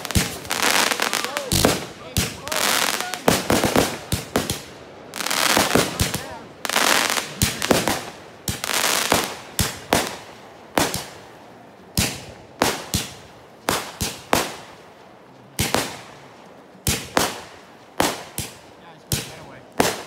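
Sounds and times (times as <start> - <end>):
fireworks bangs with echo: 0.0 - 14.8, 15.6 - 16.2, 16.8 - 20.0.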